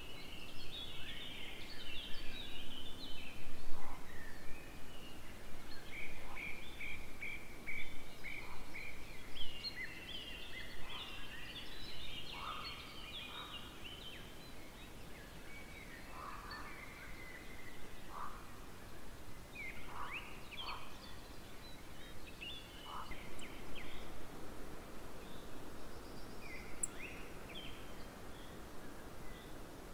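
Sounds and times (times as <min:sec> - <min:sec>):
songbirds singing: 0:00.0 - 0:29.9.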